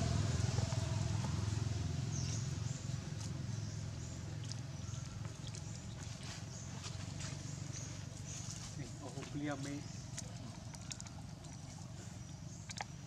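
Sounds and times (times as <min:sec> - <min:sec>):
rustling in dry leaves: 0:00.0 - 0:10.6
vehicle engine hum: 0:00.0 - 0:13.0.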